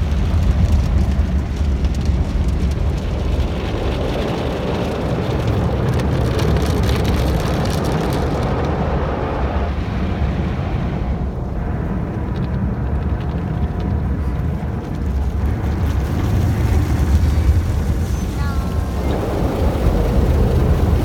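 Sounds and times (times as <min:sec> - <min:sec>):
steady low rumble: 0:00.0 - 0:21.0
water spraying on car body: 0:00.0 - 0:21.0.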